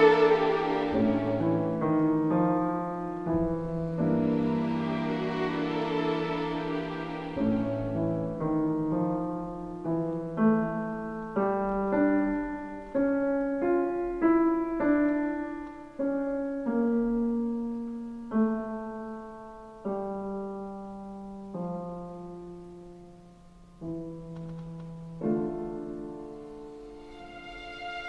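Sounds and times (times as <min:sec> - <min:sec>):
gentle solo piano: 0:00.9 - 0:04.7, 0:07.4 - 0:27.0.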